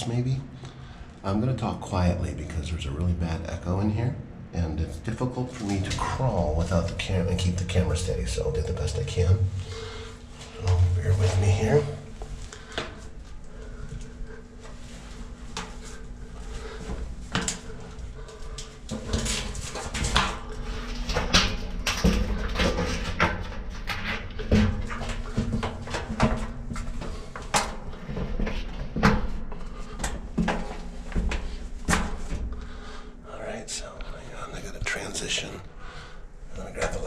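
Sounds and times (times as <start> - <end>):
crawling in metal tunnel: 5.0 - 37.0.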